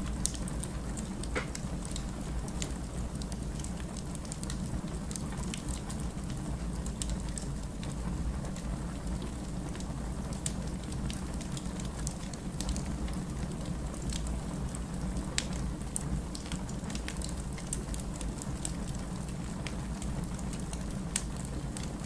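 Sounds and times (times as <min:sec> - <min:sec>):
low rumble of flames: 0:00.0 - 0:22.0
logs crackling and popping: 0:00.2 - 0:22.0.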